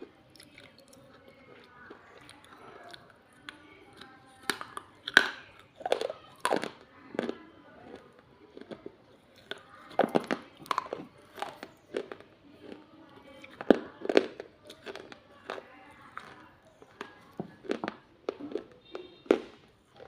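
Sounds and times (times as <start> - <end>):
clay being bitten and chewed: 0.0 - 20.0.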